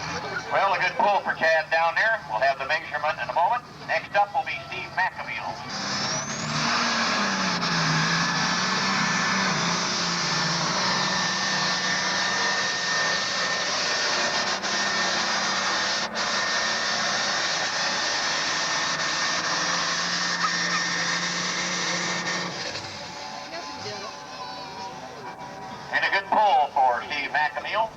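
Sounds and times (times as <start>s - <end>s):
tractor engine under heavy load: 0.0s - 27.9s.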